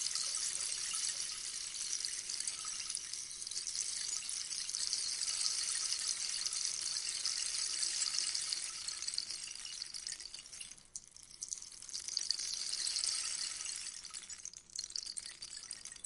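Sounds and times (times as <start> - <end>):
rainstick pellets pattering: 0.0 - 16.0.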